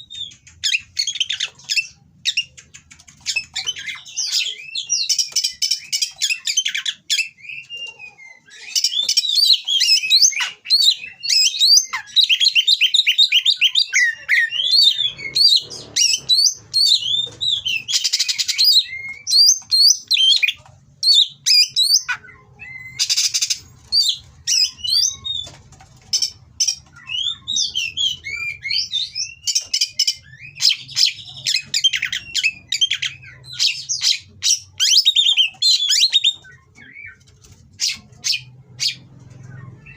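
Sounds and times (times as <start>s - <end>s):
bird singing chirps and whistles: 3.3s - 25.6s, 26.2s - 37.2s.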